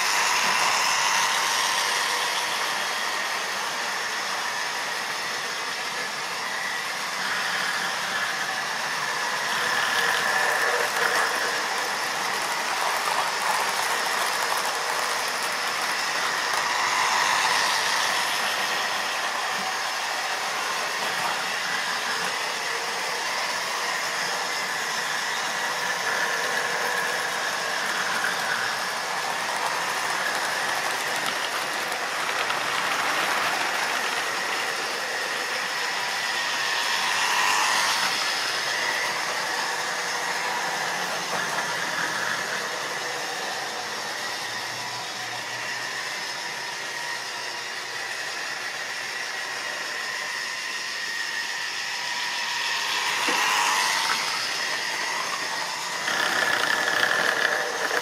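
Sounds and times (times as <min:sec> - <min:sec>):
small electric motors whirring: 0:00.0 - 0:58.0.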